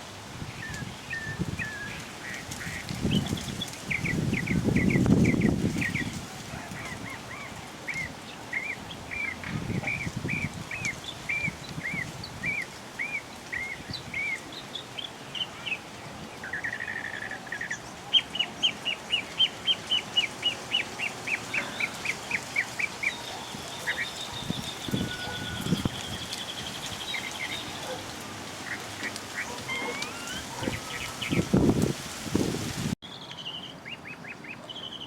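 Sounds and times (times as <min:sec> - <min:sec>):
birds chirping: 0:00.6 - 0:15.8, 0:16.4 - 0:35.0.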